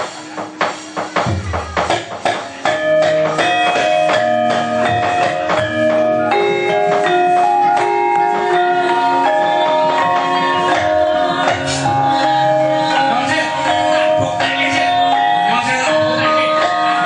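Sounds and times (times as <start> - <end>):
metallophones ringing melody: 0.1 - 17.0.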